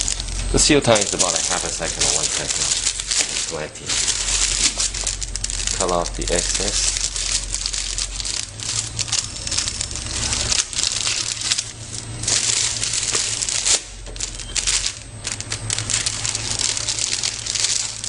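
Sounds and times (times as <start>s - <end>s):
plastic film crinkling: 0.0s - 18.0s.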